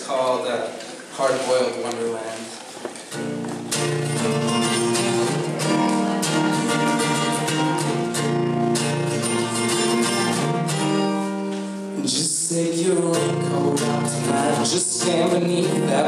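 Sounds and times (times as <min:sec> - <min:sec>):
acoustic guitar strummed chords: 0:03.1 - 0:16.0.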